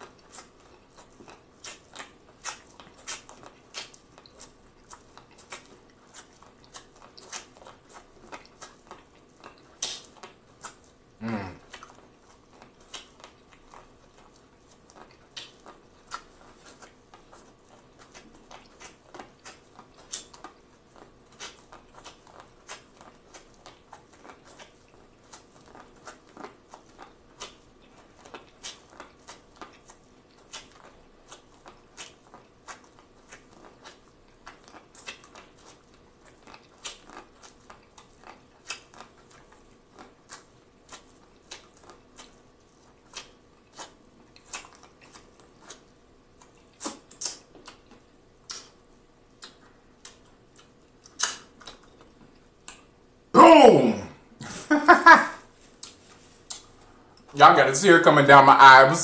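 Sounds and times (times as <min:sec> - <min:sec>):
person chewing corn on the cob: 0:00.0 - 0:53.3, 0:55.4 - 0:57.4.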